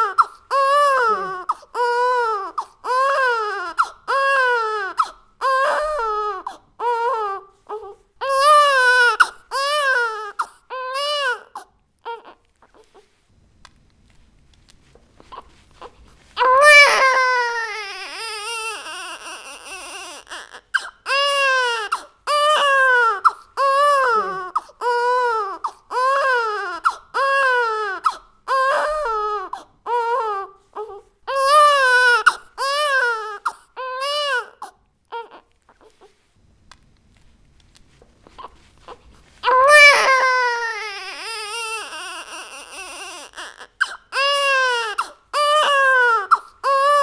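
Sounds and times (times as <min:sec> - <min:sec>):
baby crying: 0:00.0 - 0:12.9, 0:16.4 - 0:36.0, 0:38.4 - 0:47.0.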